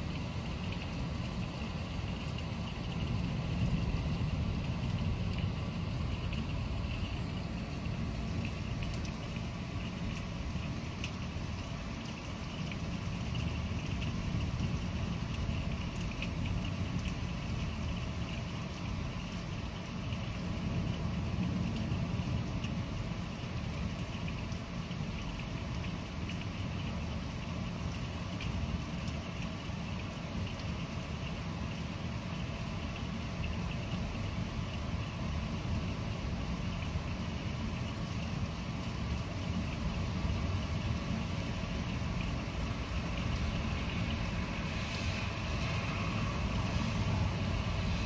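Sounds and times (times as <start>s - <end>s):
rain drops ticking: 0.0s - 48.0s
wind: 0.0s - 48.0s.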